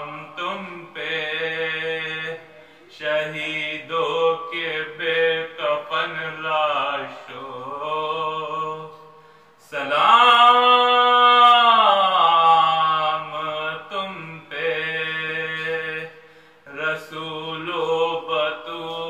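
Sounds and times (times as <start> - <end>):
man chanting unaccompanied: 0.0 - 19.0.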